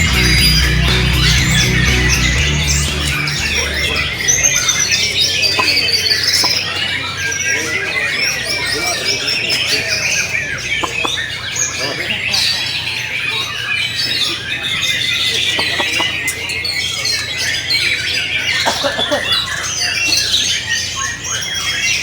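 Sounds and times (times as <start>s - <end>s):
chorus of birds singing: 0.0s - 22.0s.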